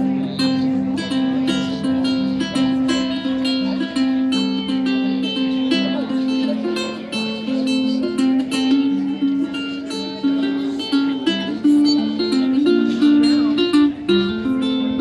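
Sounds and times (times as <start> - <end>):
ukulele picking a melody: 0.0 - 15.0.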